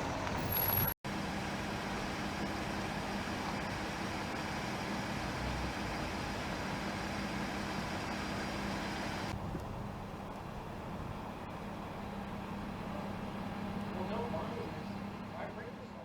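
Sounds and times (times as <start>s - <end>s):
idling vehicle rumble: 0.0s - 16.0s.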